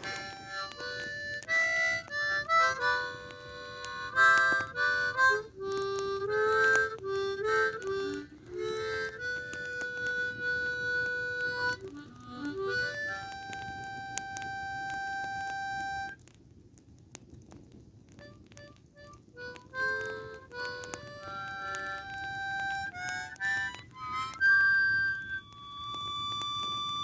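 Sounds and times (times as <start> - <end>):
harmonica playing slow melody: 0.0 - 16.2, 18.2 - 27.0.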